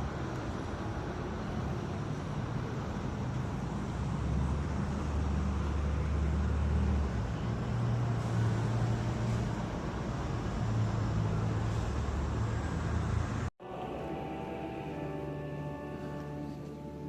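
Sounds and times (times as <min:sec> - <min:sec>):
road traffic engine rumble: 0:00.0 - 0:17.0.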